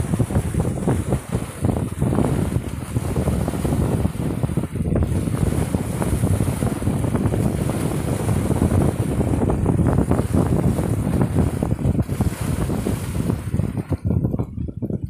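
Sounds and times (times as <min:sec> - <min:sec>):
waves splashing against concrete: 0:00.0 - 0:15.0
wind buffeting microphone: 0:00.0 - 0:15.0.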